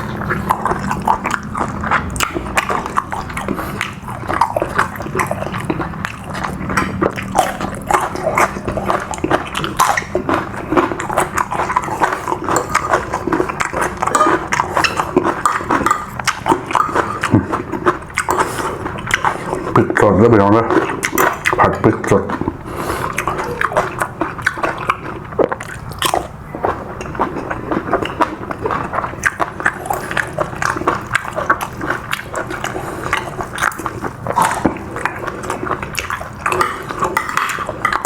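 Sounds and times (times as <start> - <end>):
chewing and mouth smacking: 0.0 - 38.0
food crunching: 0.0 - 38.0.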